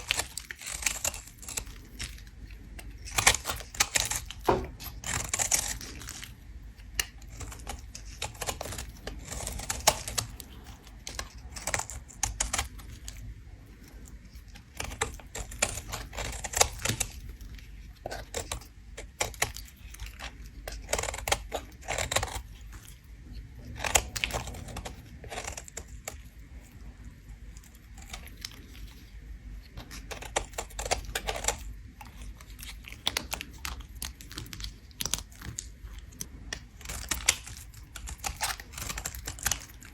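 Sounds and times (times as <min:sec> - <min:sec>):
soap being scraped: 0:00.0 - 0:13.1, 0:13.7 - 0:39.9.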